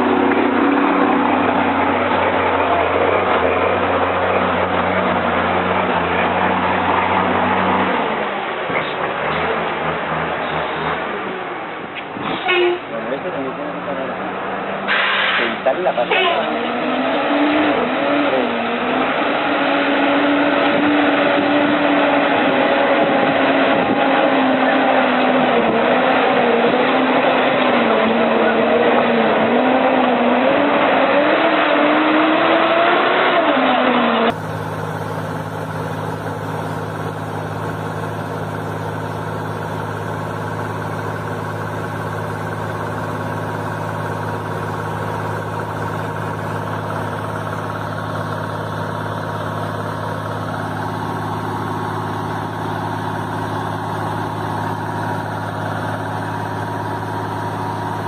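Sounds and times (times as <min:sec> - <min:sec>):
bus engine pulling through mud: 0:00.0 - 0:58.0
diesel trucks droning: 0:00.0 - 0:58.0.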